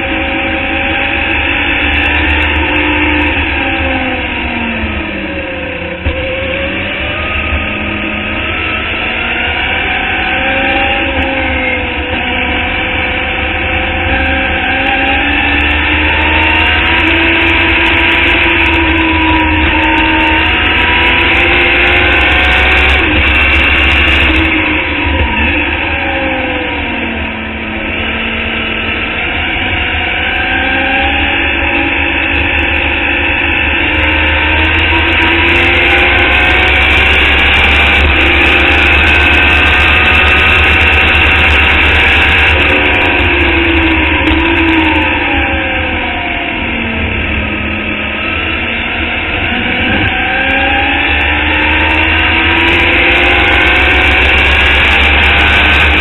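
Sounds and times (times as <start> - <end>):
race car engine at full throttle: 0.0 - 56.0
wind and road noise: 0.0 - 56.0.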